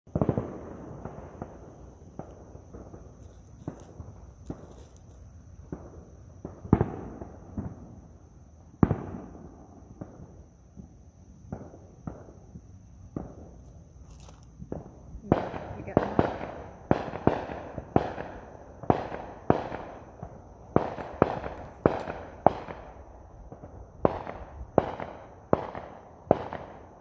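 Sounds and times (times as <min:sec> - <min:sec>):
fireworks bangs with echo: 0:00.1 - 0:08.0, 0:08.7 - 0:13.6, 0:14.6 - 0:27.0.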